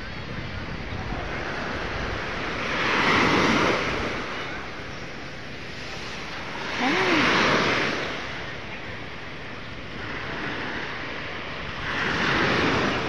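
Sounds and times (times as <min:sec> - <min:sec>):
steady surf: 0:00.0 - 0:13.0
waves washing on sandy shore: 0:00.0 - 0:13.0.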